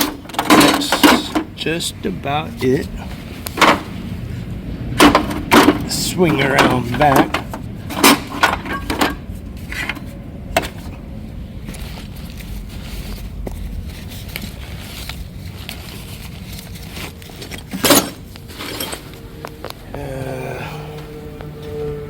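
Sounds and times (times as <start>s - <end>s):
steady low rumble: 1.3s - 22.0s.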